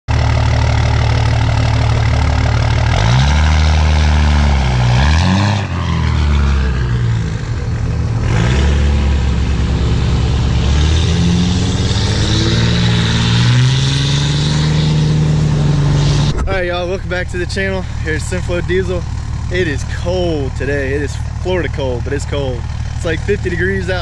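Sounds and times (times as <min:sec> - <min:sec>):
diesel truck engine revving: 0:00.1 - 0:24.0.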